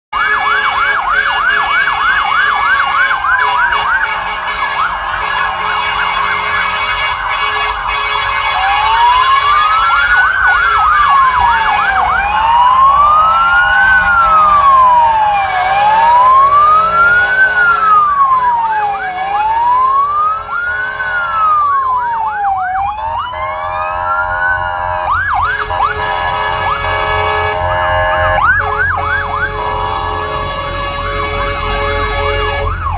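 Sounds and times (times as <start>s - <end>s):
fire engine sirens yelping and wailing: 0.1s - 32.9s.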